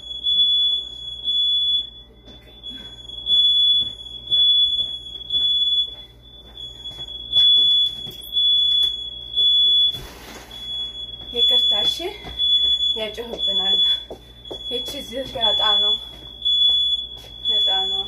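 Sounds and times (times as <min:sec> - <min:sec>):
house alarm beeping: 0:00.0 - 0:18.0.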